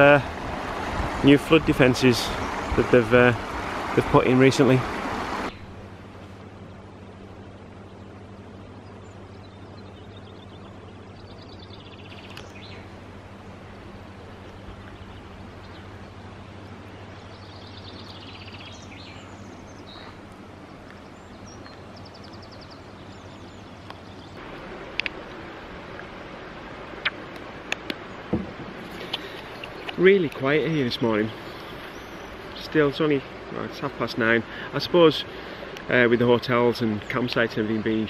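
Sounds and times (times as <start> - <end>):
songbirds singing: 0.0 - 25.3, 26.9 - 38.0
steady low hum: 5.1 - 38.0.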